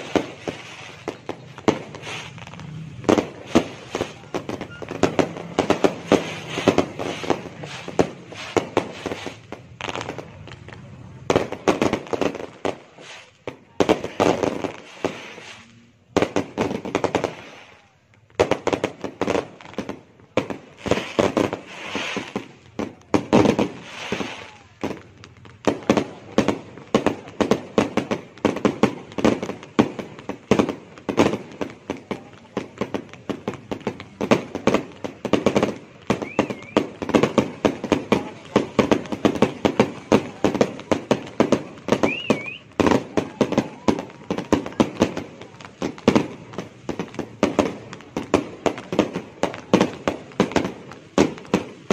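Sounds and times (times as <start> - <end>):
firework shells bursting: 0.0 - 51.9.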